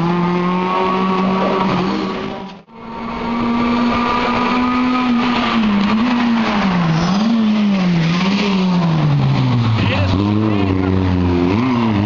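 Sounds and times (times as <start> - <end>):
rally car engine passing by: 0.0 - 12.0.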